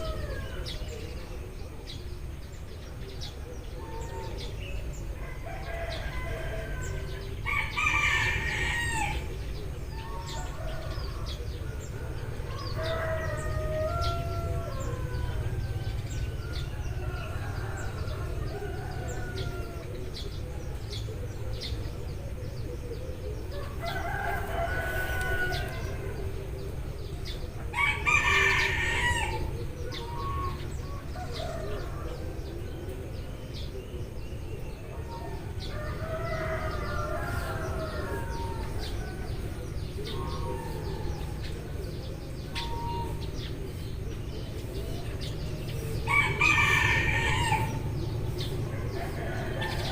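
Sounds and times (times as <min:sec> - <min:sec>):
roosters crowing: 0:00.0 - 0:02.3, 0:03.2 - 0:49.9
sparrows chirping: 0:00.0 - 0:49.9.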